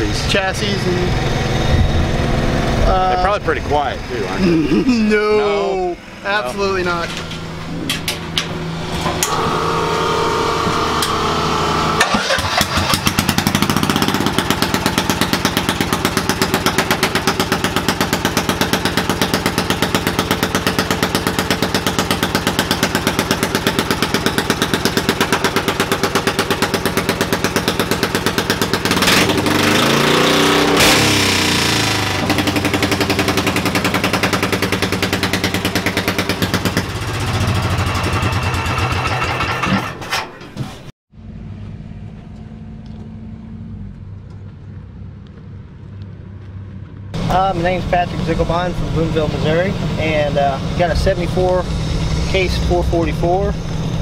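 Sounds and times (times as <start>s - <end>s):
tractor engine running: 6.0s - 54.0s.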